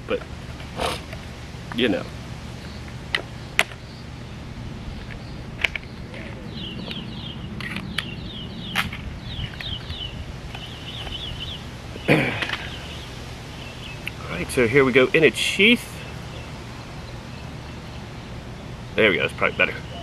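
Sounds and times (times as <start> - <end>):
bird chirping: 1.8 - 20.0.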